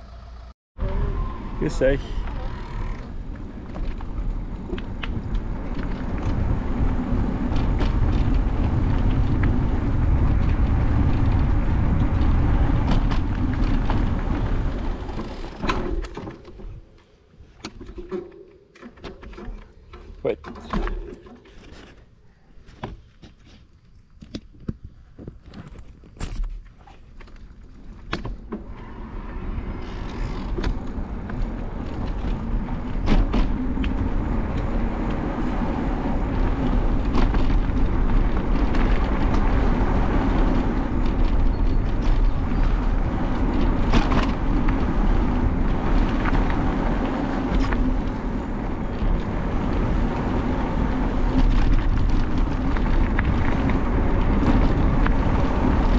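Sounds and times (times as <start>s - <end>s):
bike tyres rolling on asphalt: 0.0s - 18.7s, 21.2s - 55.9s
wind noise on microphone: 0.8s - 18.4s, 24.5s - 55.9s.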